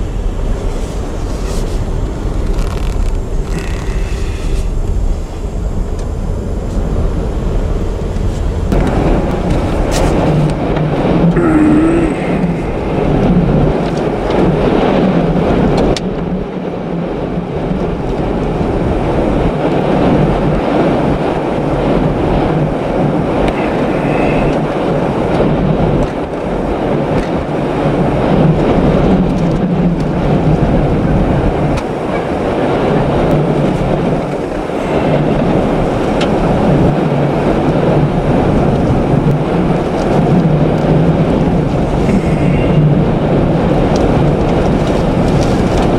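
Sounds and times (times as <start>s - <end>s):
gusty wind buffeting: 0.0s - 45.9s
vehicle rumbling on road: 0.0s - 45.9s.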